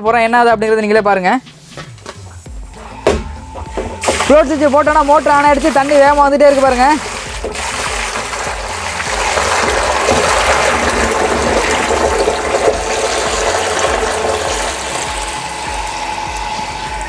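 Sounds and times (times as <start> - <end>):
water gushing into tank: 3.1 - 17.0.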